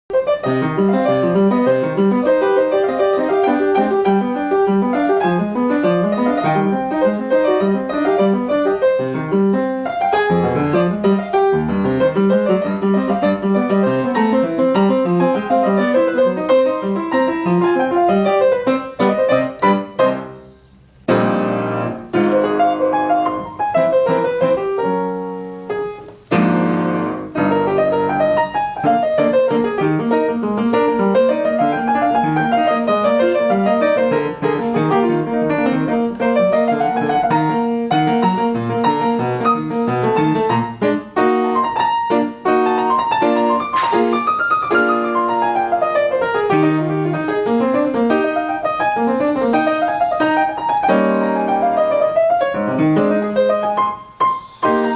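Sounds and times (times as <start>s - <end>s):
piano playing: 0.1s - 54.9s.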